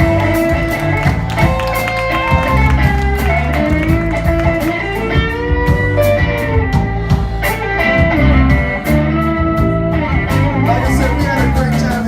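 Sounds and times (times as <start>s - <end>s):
bass guitar: 0.0s - 12.0s
drums with steady beat: 0.0s - 12.0s
electric guitar lead: 0.0s - 12.0s.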